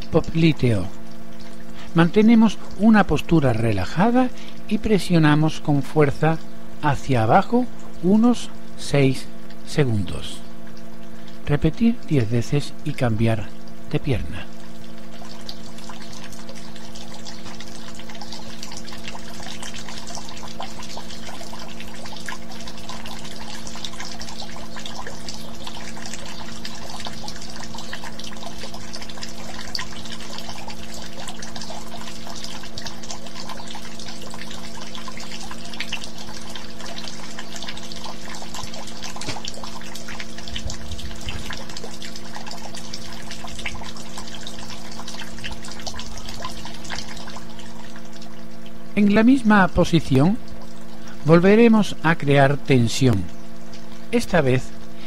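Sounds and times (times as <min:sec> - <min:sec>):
constant low hum: 0:00.0 - 0:55.0
water trickling: 0:00.0 - 0:55.0.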